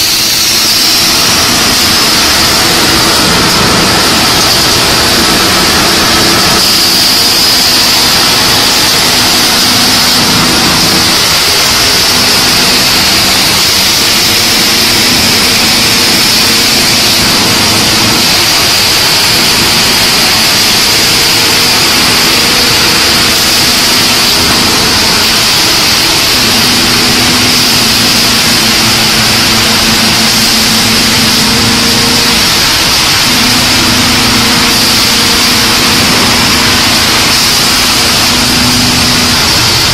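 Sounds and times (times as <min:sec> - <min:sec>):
factory machinery noise: 0:00.0 - 0:39.9
high steady hiss: 0:00.0 - 0:39.9
low machine hum: 0:00.0 - 0:39.9.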